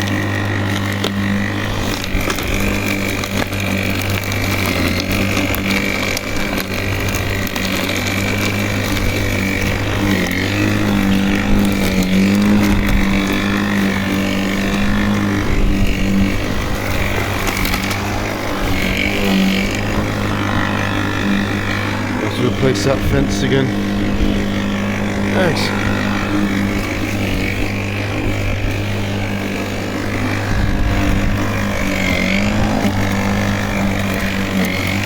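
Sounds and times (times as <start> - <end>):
lawnmower motor hum and blade whine: 0.0 - 35.0.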